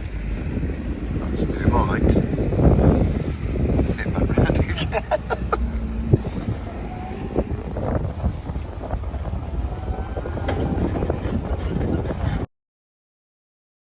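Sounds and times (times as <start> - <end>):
vehicle engine rumble: 0.0 - 12.5
wind buffeting microphone: 0.0 - 12.5.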